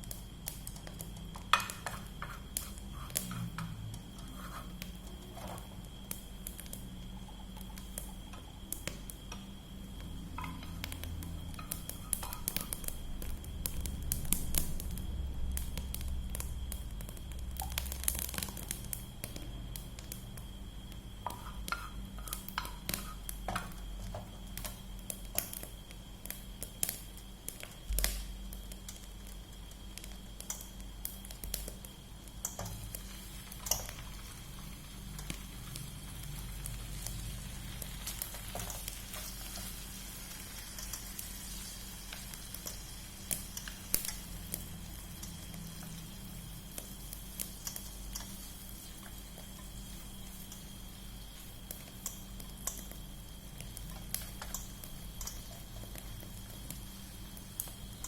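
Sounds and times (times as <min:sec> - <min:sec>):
food sizzling in oil: 0:00.0 - 0:14.8, 0:15.6 - 0:58.0.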